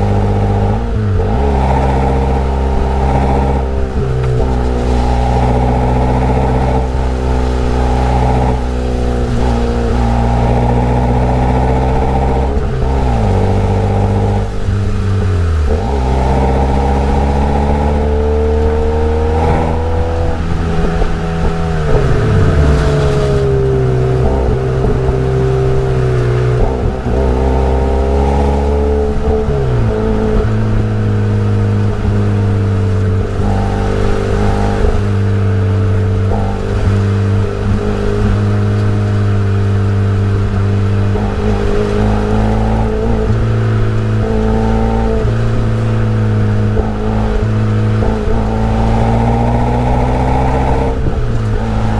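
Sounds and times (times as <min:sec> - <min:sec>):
car exhaust note: 0:00.0 - 0:51.9.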